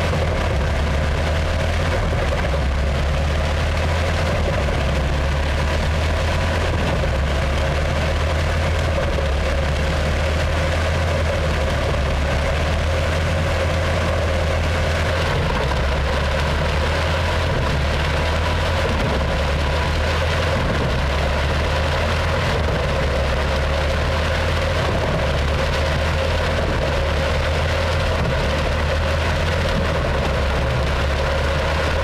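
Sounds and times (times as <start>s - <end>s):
wood chipper engine rumble: 0.0s - 32.0s.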